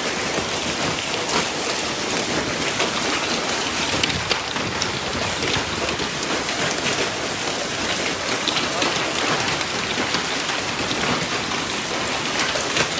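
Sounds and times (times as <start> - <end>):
hailstones ticking on metal: 0.0 - 12.9
rain hissing on car: 0.0 - 12.9.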